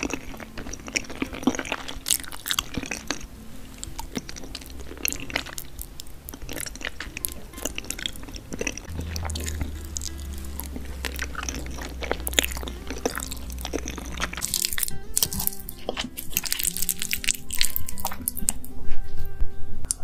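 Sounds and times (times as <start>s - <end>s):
chewing: 0.0s - 18.7s
low hum: 0.0s - 19.9s
soft background music: 0.0s - 20.0s.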